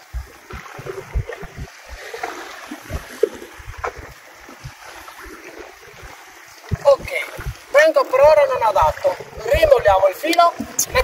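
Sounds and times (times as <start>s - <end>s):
small waves lapping against boat: 0.0s - 11.0s.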